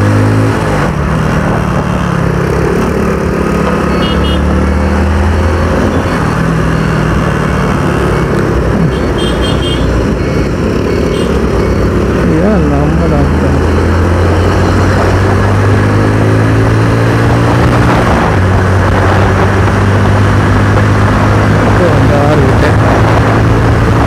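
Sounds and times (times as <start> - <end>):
wind and road noise: 0.0 - 24.0
motorcycle engine running: 0.9 - 24.0.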